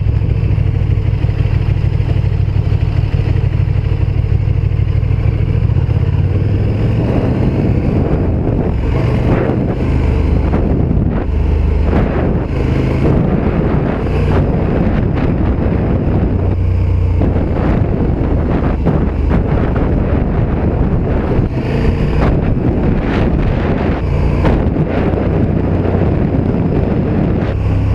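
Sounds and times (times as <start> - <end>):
motorcycle engine running: 0.0 - 27.9
wind rushing over microphone: 0.0 - 27.9.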